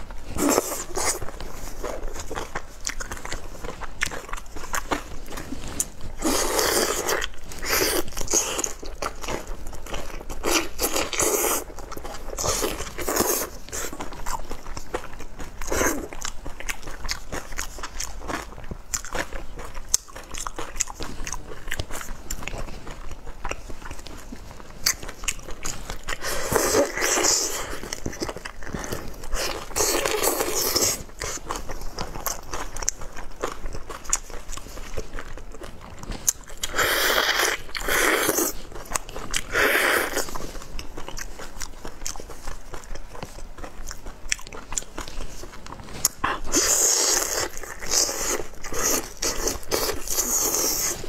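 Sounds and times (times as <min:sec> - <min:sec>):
wet biting and chewing: 0:00.0 - 0:51.0.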